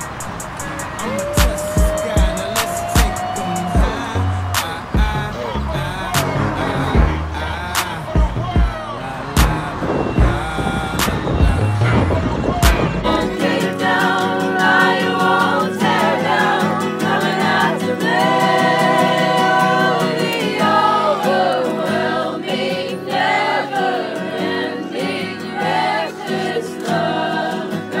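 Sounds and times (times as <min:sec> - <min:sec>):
song with choir-like vocals: 0:00.0 - 0:28.0.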